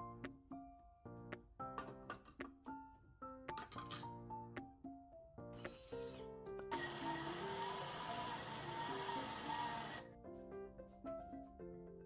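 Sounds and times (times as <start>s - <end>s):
light instrumental music: 0.0s - 12.0s.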